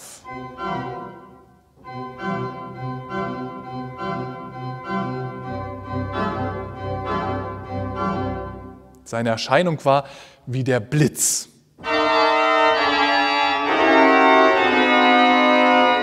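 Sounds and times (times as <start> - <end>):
pipe organ chords: 0.0 - 9.3, 11.8 - 16.0.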